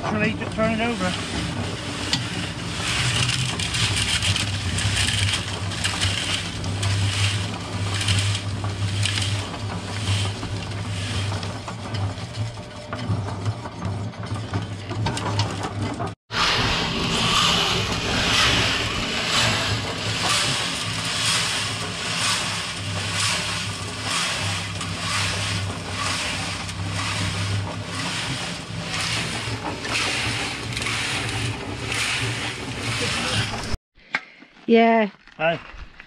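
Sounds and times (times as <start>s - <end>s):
concrete tumbling in drum: 0.0s - 16.2s, 16.8s - 33.8s
cement mixer motor humming: 0.0s - 33.8s.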